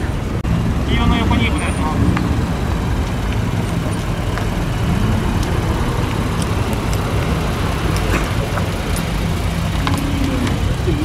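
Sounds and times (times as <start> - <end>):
car engine running low: 0.0 - 11.0.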